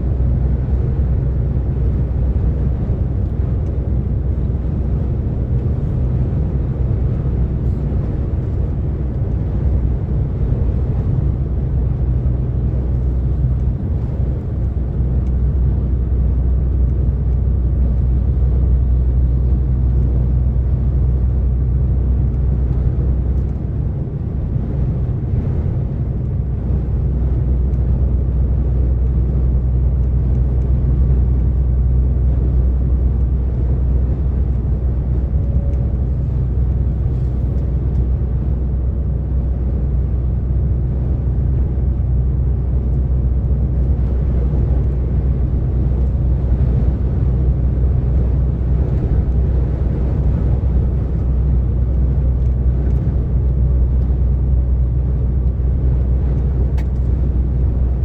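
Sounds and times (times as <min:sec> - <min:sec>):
road and tyre rumble: 0:00.0 - 0:58.0
truck diesel engine drone: 0:00.0 - 0:58.0.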